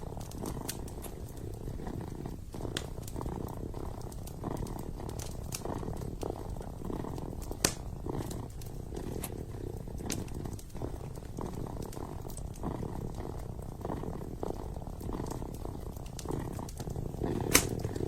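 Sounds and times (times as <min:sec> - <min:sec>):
kitten purring: 0:00.0 - 0:18.0
wood fire crackling and popping: 0:00.0 - 0:18.0.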